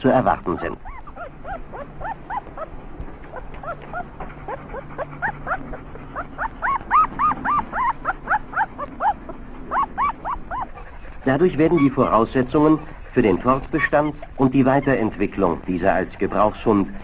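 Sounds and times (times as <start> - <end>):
puppies whining: 0.3 - 17.0.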